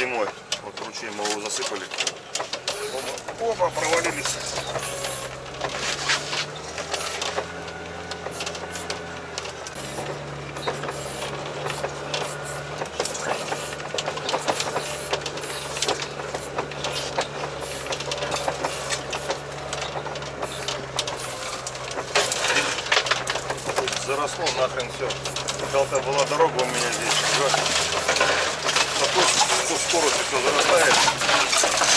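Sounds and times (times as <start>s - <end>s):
tracks clattering and cracking: 0.0s - 31.9s
vehicle engine under load: 0.0s - 31.9s.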